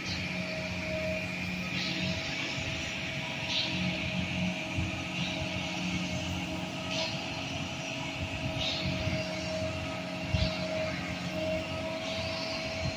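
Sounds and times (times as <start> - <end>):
diesel engines running: 0.0 - 12.9
steady whine: 0.0 - 12.9.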